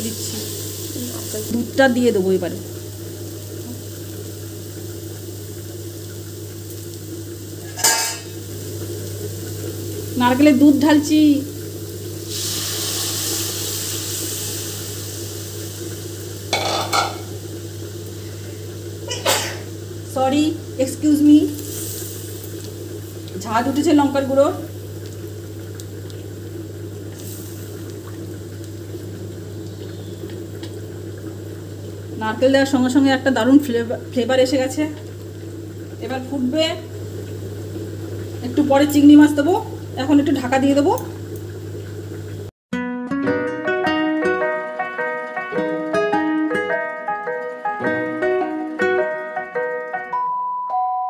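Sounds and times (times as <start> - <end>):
curry bubbling in a pan: 0.0 - 42.5
paste frying quietly: 0.0 - 42.5, 43.2 - 50.1.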